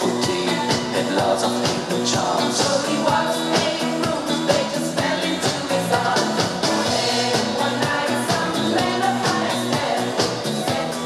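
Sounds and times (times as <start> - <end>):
line-dance music: 0.0 - 11.0.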